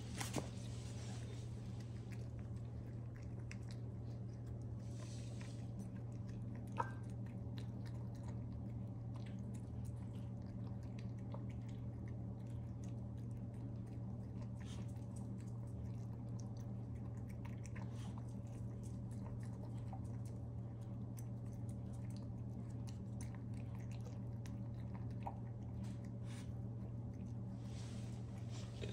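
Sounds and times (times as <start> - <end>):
puppy chewing kibble: 0.0 - 28.9.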